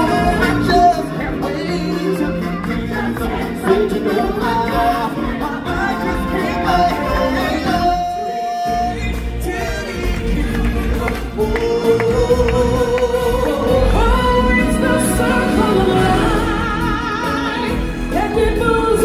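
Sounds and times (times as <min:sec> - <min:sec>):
musical accompaniment with percussion: 0:00.0 - 0:19.0.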